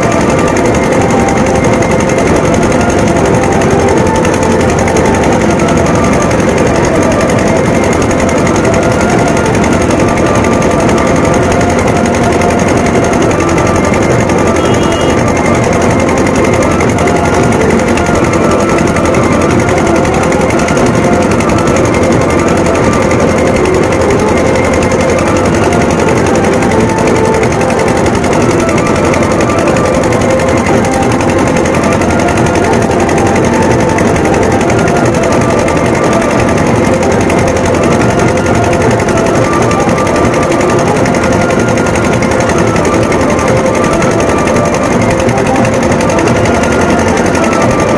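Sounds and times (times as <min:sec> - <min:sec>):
fast loud drumming: 0:00.0 - 0:47.9
large crowd din: 0:00.0 - 0:47.9.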